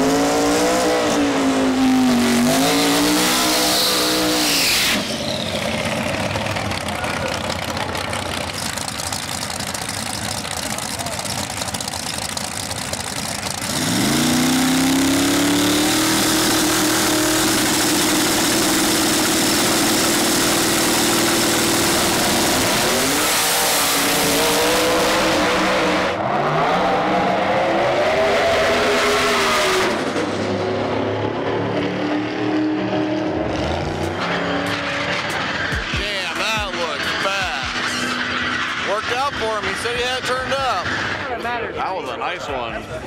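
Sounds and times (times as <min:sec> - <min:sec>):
drag cars racing at full throttle: 0:00.0 - 0:43.0.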